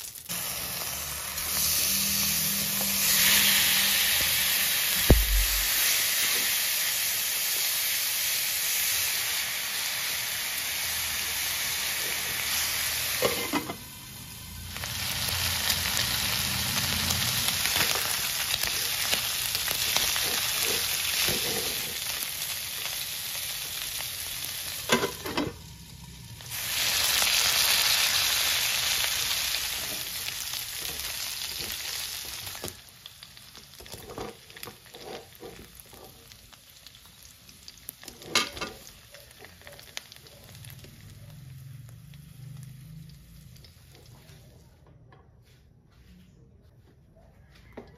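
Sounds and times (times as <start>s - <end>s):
meat sizzling in a wok: 0.0s - 44.2s.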